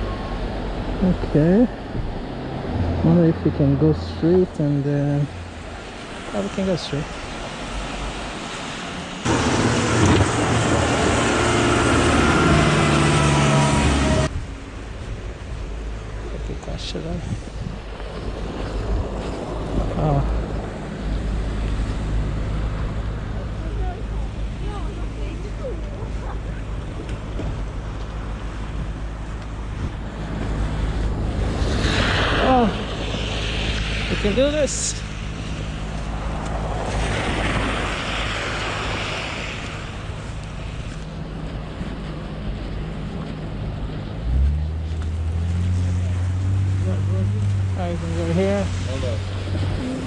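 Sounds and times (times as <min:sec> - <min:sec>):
city street traffic rumble: 0:00.0 - 0:50.0
wind buffeting microphone: 0:07.0 - 0:50.0
large vehicle engine humming: 0:07.5 - 0:17.1, 0:19.2 - 0:50.0.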